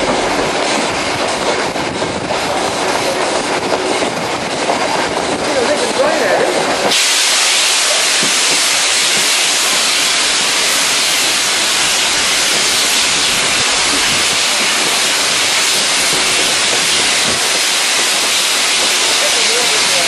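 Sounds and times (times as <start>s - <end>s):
steam locomotive hissing: 0.0s - 20.0s.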